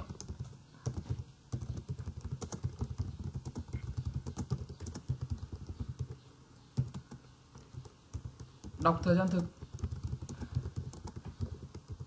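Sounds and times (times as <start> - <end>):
typing on computer keyboard: 0.0 - 6.2, 6.8 - 12.0.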